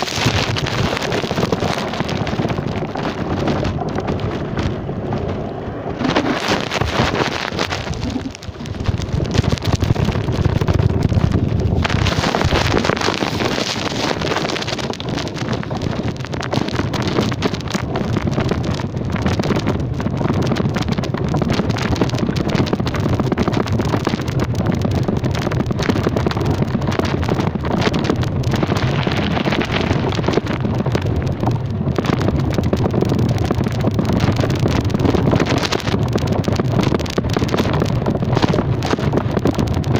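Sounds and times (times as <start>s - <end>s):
vehicle low rumble: 0.0s - 39.9s
wind rushing over microphone: 0.0s - 39.9s.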